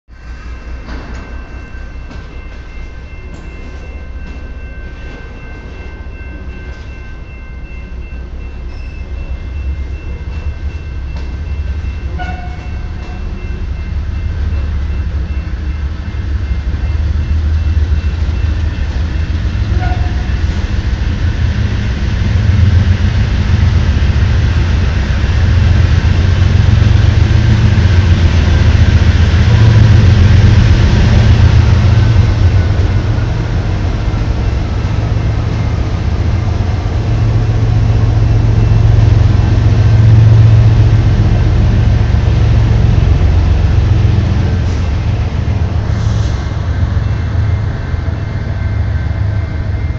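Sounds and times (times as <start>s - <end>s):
diesel locomotive engine rumble: 0.1s - 49.9s
freight train wheels rumbling on rails: 0.1s - 49.9s.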